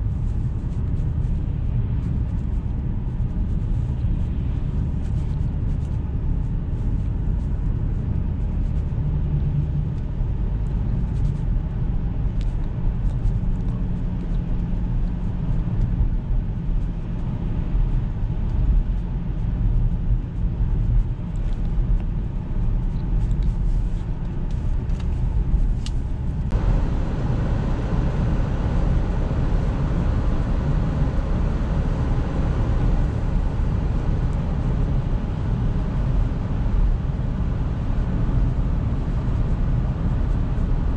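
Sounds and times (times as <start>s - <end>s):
car engine and road rumble: 0.0s - 40.9s
road or wind noise hiss: 0.0s - 40.9s.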